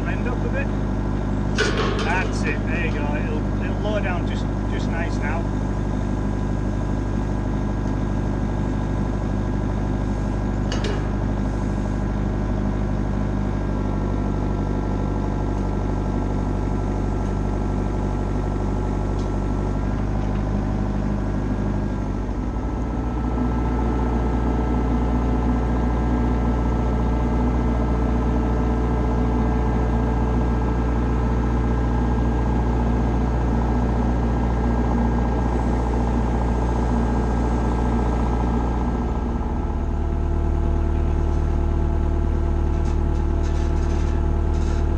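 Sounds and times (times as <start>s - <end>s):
excavator engine running: 0.0s - 44.9s.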